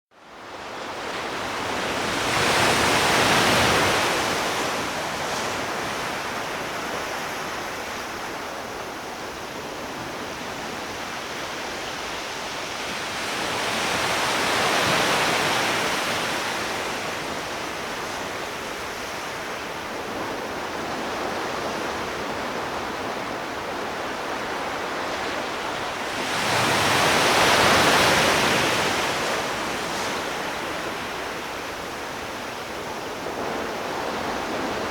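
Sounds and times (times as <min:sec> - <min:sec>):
sea waves washing onto shore: 0:00.4 - 0:34.9.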